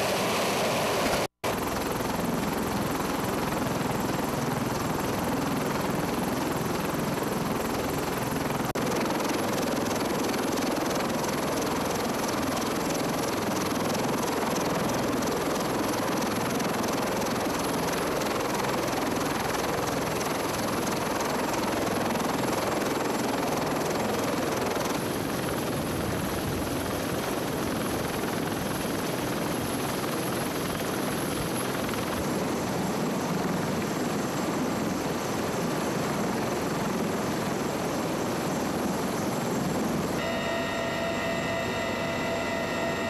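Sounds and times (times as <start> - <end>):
helicopter rotors and turbine running: 0.0 - 43.0.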